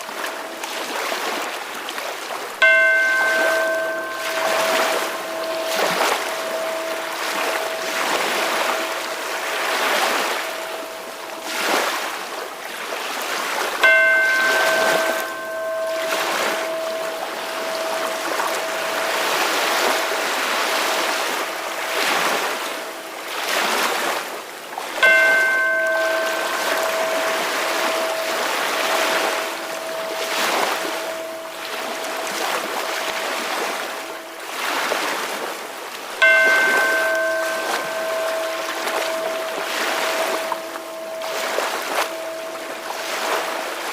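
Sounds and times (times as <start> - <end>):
faint steady tone: 0.0 - 43.9
ocean waves washing in: 0.0 - 43.9
ringing tone with overtones: 2.6 - 12.3, 13.8 - 23.3, 25.0 - 35.0, 36.2 - 43.9.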